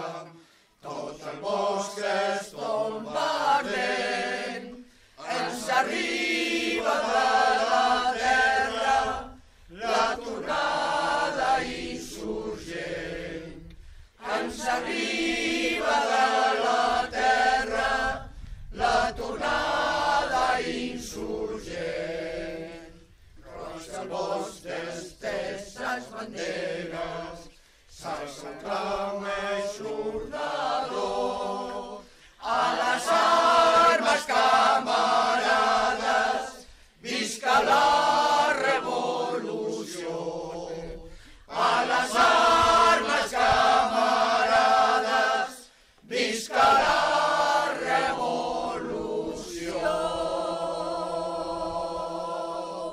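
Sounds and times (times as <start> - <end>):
group singing unaccompanied: 0.0 - 52.9.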